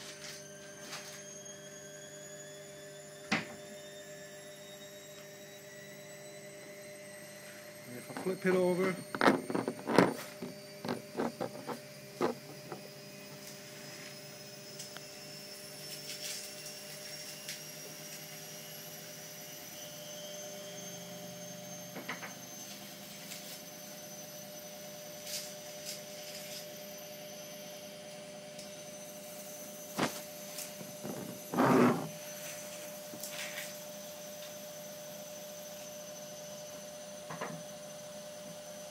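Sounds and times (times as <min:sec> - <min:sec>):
electrical hum with high whine: 0:00.0 - 0:38.9.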